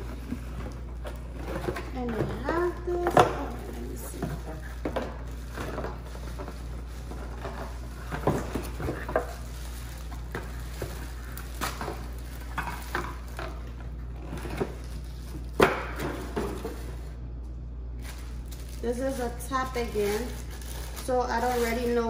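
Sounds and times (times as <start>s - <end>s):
cardboard and plastic rustling: 0.0s - 17.2s, 18.0s - 22.0s.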